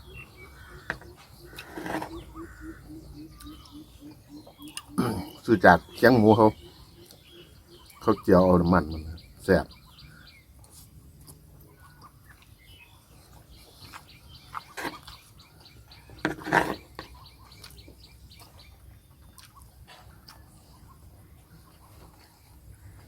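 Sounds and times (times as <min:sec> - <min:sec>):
faint bird chirps: 0:00.0 - 0:10.9, 0:11.6 - 0:23.0.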